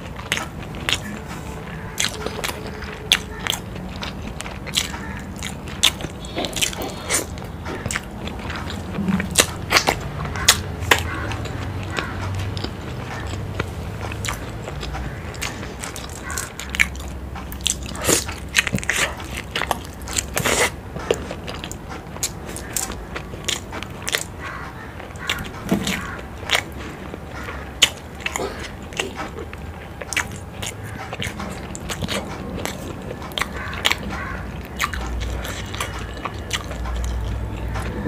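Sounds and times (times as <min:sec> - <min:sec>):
close chewing and biting: 0:00.0 - 0:38.0.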